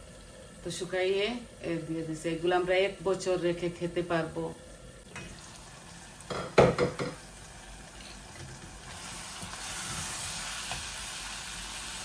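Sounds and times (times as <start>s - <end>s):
food sizzling in pan: 0.0s - 12.0s.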